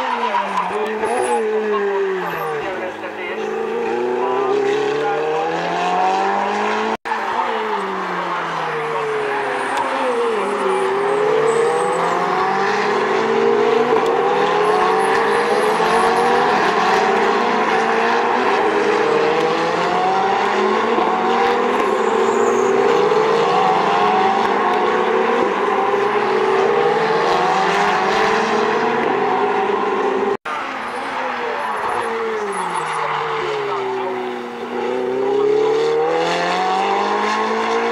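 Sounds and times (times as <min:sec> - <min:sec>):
race car engines accelerating: 0:00.0 - 0:37.9.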